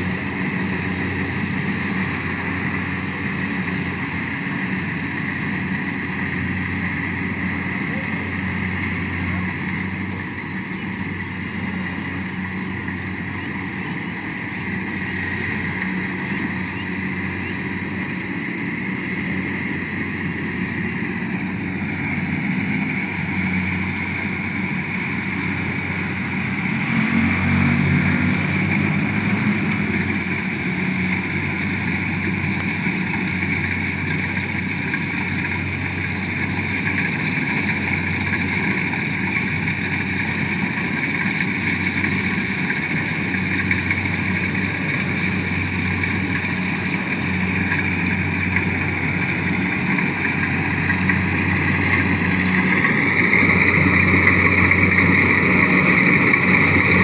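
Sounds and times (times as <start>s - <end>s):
harvester engine whirring: 0.0s - 57.0s.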